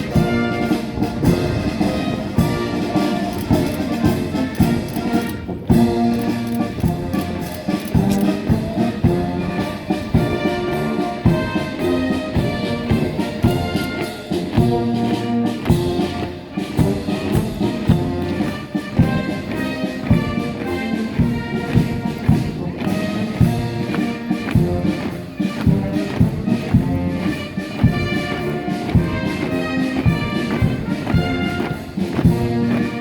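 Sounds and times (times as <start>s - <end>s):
brass band playing a march: 0.0s - 33.0s
steady drum beat: 0.0s - 33.0s.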